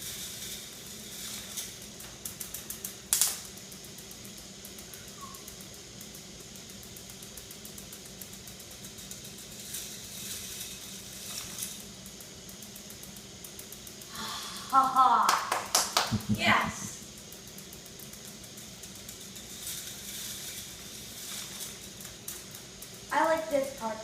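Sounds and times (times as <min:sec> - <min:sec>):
toy machine humming: 0:00.0 - 0:24.0.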